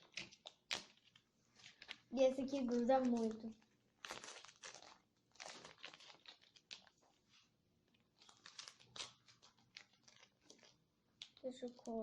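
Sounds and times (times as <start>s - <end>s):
tape and paper crinkling: 0.0s - 12.0s.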